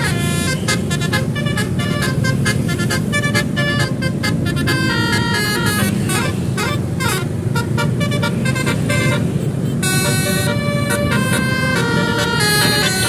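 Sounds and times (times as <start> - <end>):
multi-tone horn playing notes: 0.0 - 13.0
vehicle engine rumble: 0.0 - 13.0.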